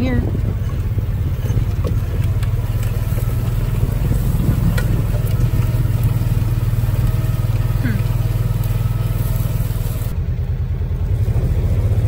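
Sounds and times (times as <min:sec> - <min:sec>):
utility vehicle engine droning: 0:00.0 - 0:12.0.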